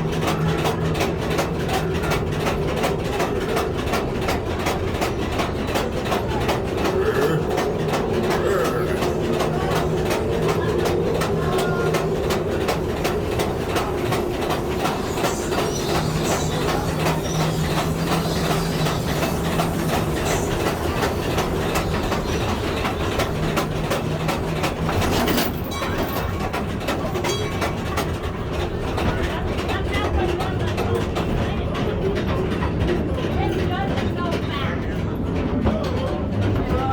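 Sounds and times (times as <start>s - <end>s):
train cars rumbling on track: 0.0s - 36.9s
wheels clickety-clack: 0.0s - 36.9s.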